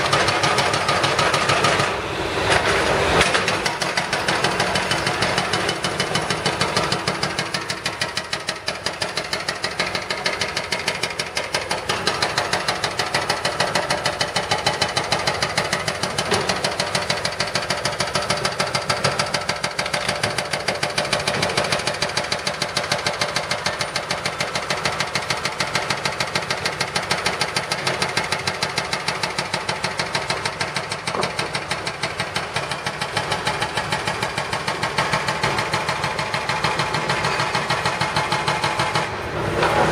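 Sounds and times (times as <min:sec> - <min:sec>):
hydraulic breaker pounding pavement: 0:00.0 - 0:39.9.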